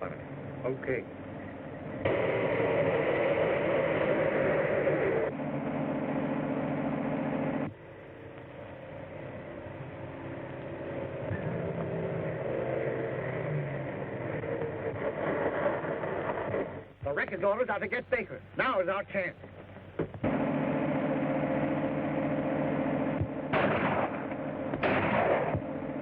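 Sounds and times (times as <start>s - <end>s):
car engine droning at speed: 0.0s - 17.1s, 19.4s - 26.0s.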